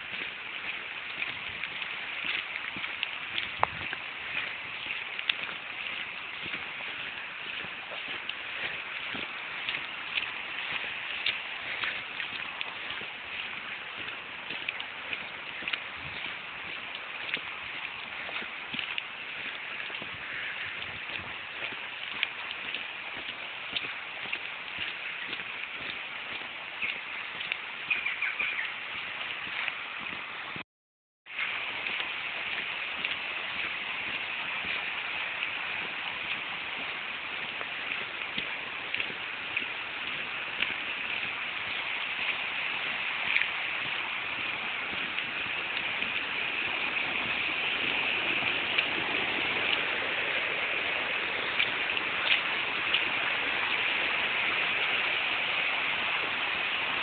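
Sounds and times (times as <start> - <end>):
stream rushing: 0.0 - 30.6, 31.3 - 57.0.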